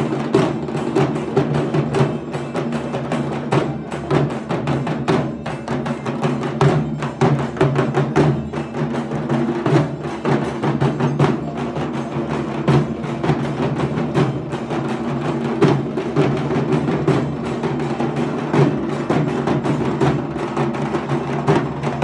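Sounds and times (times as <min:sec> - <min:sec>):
barrel drums beating fast: 0:00.0 - 0:22.0.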